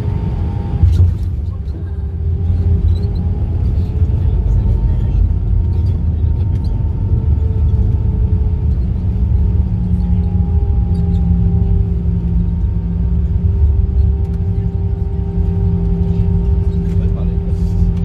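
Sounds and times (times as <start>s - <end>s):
aircraft cabin engine rumble: 0.0s - 18.0s
engine hum: 0.0s - 18.0s.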